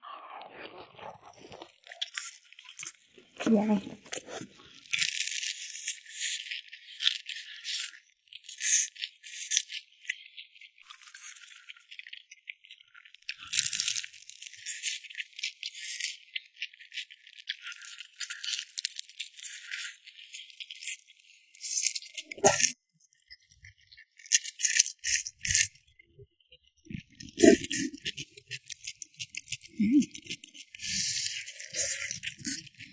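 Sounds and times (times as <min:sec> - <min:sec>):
crispy fried food being chewed: 0:00.0 - 0:26.0, 0:26.9 - 0:32.9.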